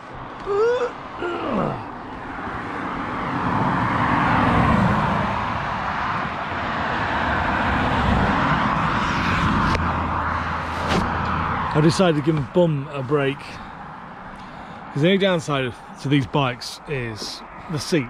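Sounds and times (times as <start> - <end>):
vehicle engine hum: 0.0 - 18.0
wind and road noise: 0.0 - 18.0.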